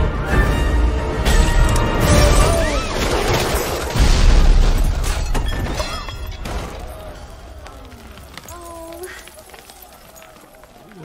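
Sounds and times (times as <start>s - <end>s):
debris clattering: 1.3s - 10.9s.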